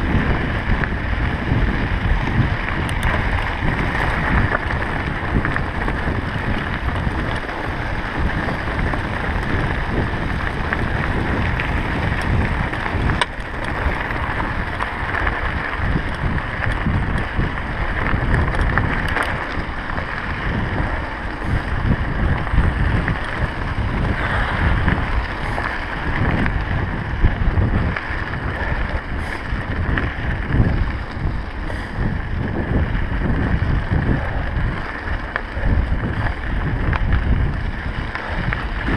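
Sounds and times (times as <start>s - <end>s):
bike clicks and rattles: 0.0s - 38.9s
bike tyres rolling on gravel: 0.0s - 38.9s
wind buffeting microphone: 0.0s - 38.9s.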